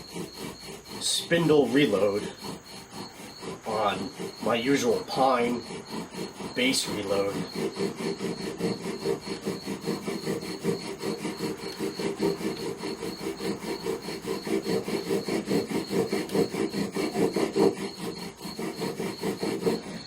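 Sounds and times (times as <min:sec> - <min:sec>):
fire drill rasping groan: 0:00.0 - 0:20.0.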